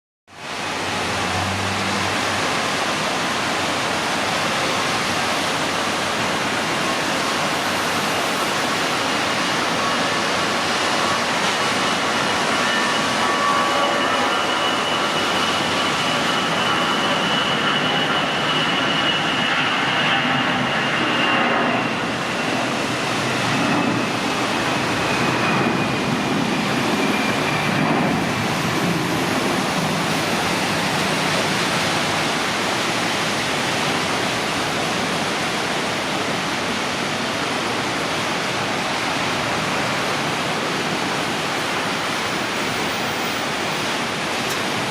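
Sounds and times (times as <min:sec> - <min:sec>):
jet engines roaring: 0:00.3 - 0:44.9.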